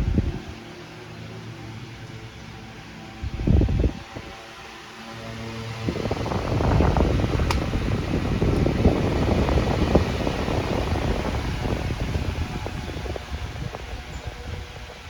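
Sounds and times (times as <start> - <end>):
stand fan running: 0.0 - 15.0.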